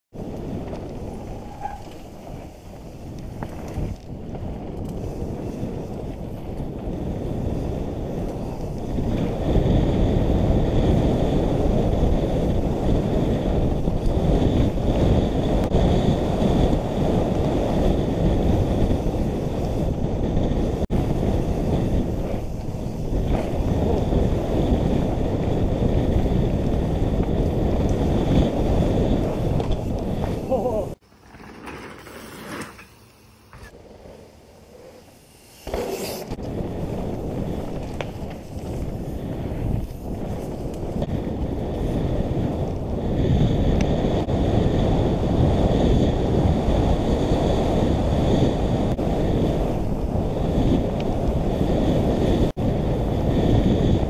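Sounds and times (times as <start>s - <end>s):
wind buffeting microphone: 0.1s - 31.6s, 33.6s - 54.0s
bike tyres rattling over dirt: 0.1s - 54.0s.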